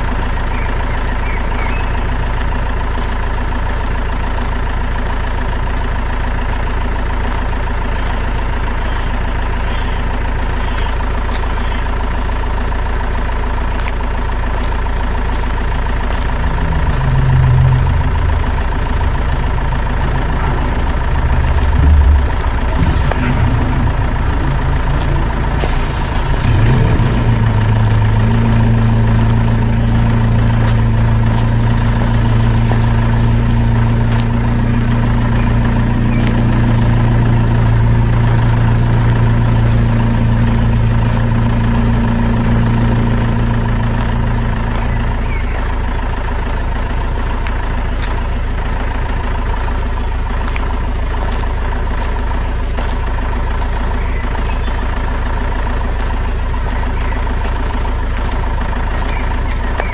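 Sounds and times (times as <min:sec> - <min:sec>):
heavy truck engine idling: 0:00.0 - 0:59.9.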